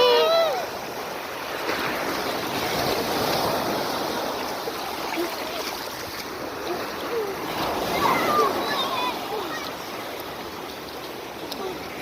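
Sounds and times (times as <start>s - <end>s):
sea waves washing on beach: 0.0s - 12.0s.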